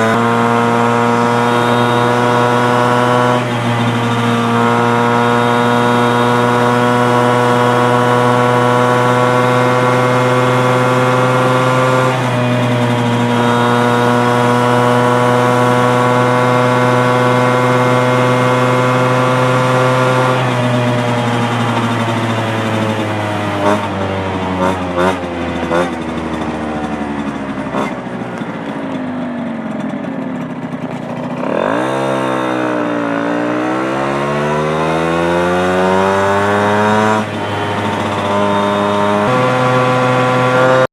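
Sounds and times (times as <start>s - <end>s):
moped engine revving: 0.0s - 40.9s.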